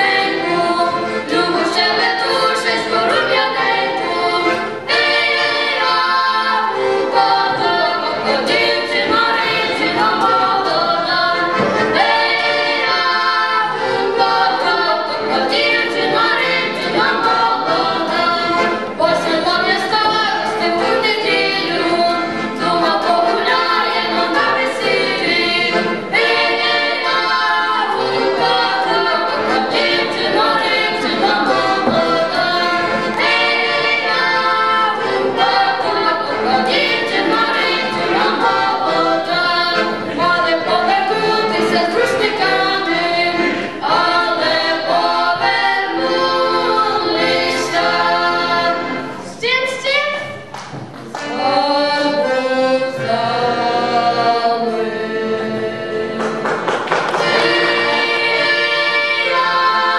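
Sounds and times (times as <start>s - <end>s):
boys singing together: 0.0s - 49.2s, 51.2s - 59.9s
button accordion: 0.0s - 59.9s.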